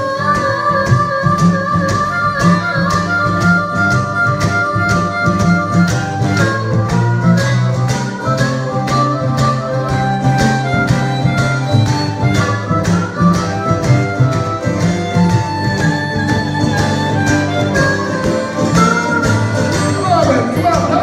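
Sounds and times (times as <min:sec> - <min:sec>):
blues harmonica solo: 0:00.0 - 0:21.0
steady guitar rhythm: 0:00.0 - 0:21.0.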